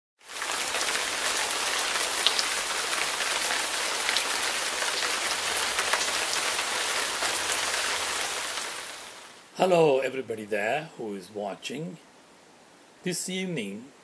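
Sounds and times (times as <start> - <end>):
rain-like hiss: 0.2 - 14.0.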